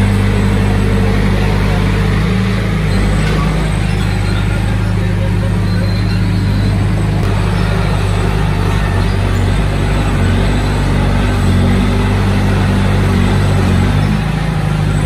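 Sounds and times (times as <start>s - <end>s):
heavy diesel engine under load: 0.0s - 15.0s.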